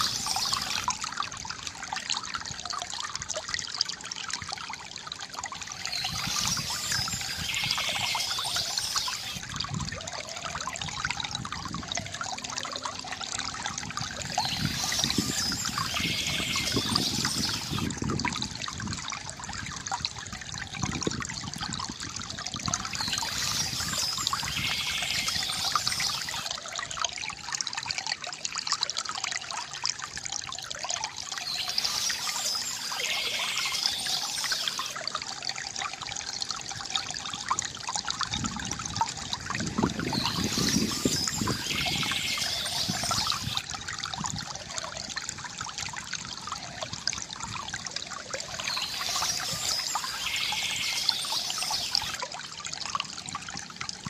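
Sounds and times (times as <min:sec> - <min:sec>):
stream water trickling: 0:00.0 - 0:54.0.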